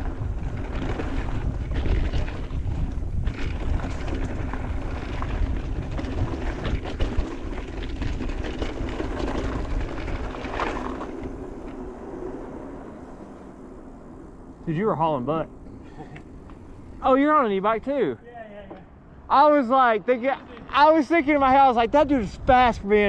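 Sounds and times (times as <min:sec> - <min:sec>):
bike clattering over bumps: 0:00.0 - 0:19.1
bike tyres rolling on dirt: 0:00.0 - 0:23.0
wind buffeting microphone: 0:00.0 - 0:23.0.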